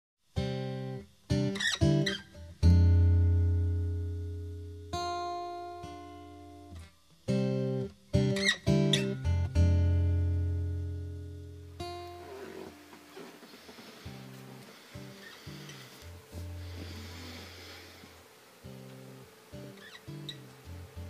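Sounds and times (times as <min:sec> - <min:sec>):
acoustic guitar strummed chords: 0:00.4 - 0:21.0.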